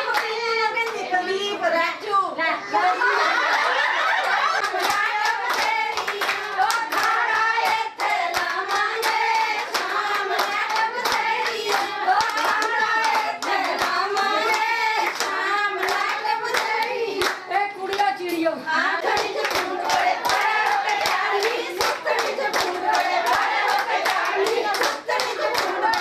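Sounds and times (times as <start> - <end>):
rhythmic hand clapping: 0.0 - 1.1, 4.0 - 26.0
women singing together: 0.0 - 26.0.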